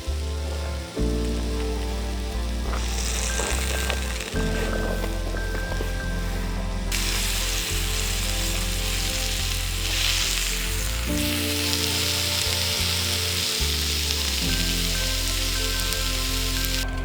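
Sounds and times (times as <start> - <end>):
soft background music: 0.0 - 17.0
food sizzling in a pan: 0.1 - 5.9, 6.9 - 16.8.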